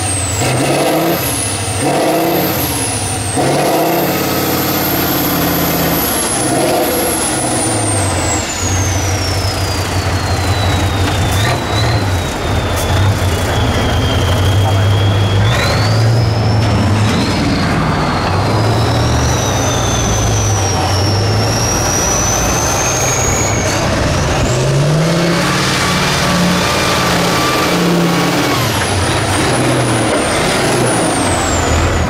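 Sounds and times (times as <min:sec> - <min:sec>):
diesel truck engine revving: 0:00.0 - 0:32.0
thin high whistle: 0:02.4 - 0:32.0.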